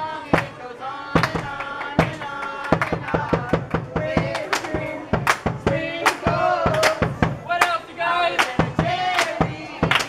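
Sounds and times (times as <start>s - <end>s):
people singing together: 0.0s - 10.0s
hand claps: 0.4s - 0.6s, 1.2s - 7.8s, 8.4s - 10.0s.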